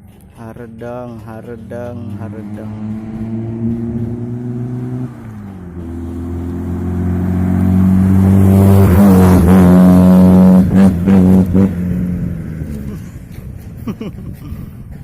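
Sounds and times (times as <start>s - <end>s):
engine revving: 0.5s - 13.8s.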